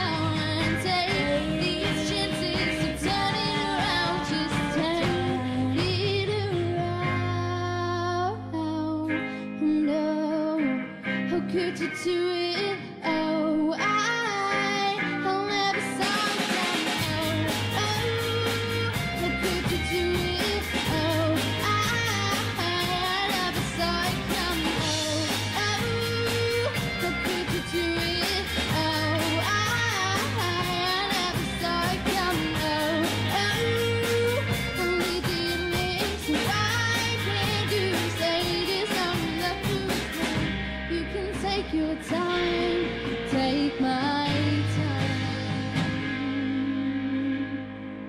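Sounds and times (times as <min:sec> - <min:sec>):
drum kit: 0:00.0 - 0:07.7, 0:14.5 - 0:47.1
woman singing: 0:00.0 - 0:47.8
electric guitar: 0:00.0 - 0:48.0.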